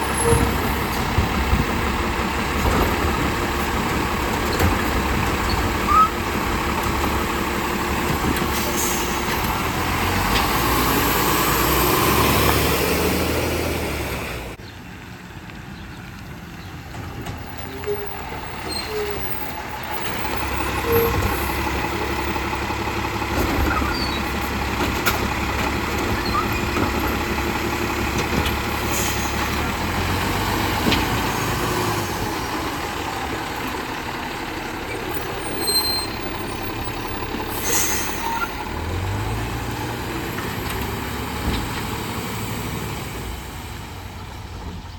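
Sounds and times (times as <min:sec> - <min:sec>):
garbage truck engine rumbling: 0:00.0 - 0:44.9.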